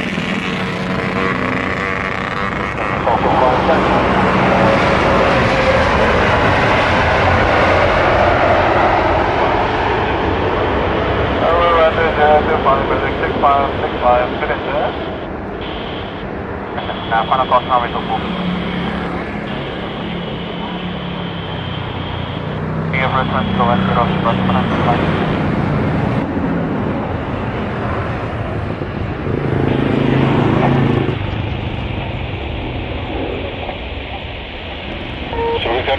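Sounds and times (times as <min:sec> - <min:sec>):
jet airliner engines roaring: 0:00.0 - 0:35.9.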